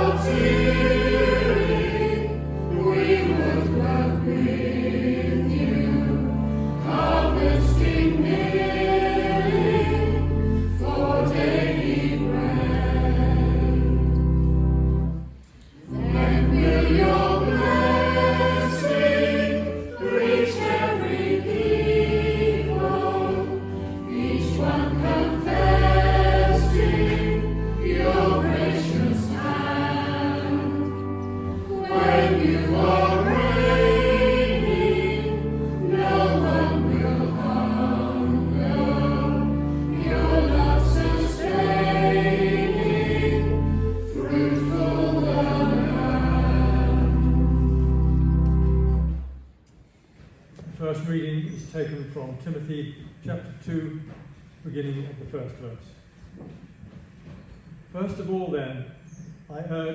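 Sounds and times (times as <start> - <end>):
congregation and choir singing hymn: 0.0 - 49.3
pipe organ: 0.0 - 49.5.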